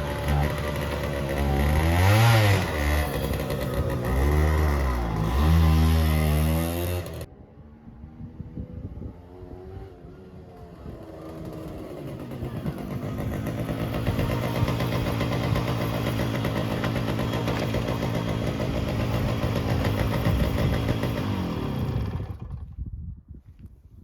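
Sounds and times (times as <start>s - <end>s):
moped engine running: 0.0s - 7.3s, 10.6s - 22.8s.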